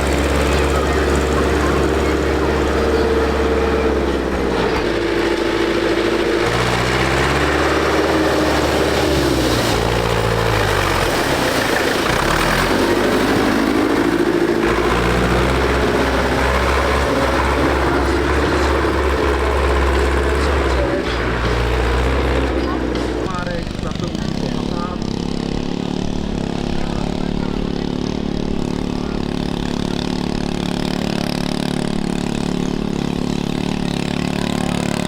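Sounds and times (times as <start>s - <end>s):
tractor engines running: 0.0s - 35.0s.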